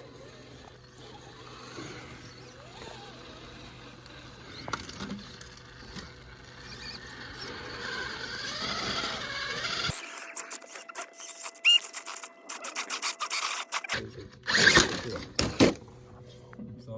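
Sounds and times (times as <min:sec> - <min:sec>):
electric motor and gears whining: 0:00.0 - 0:16.2.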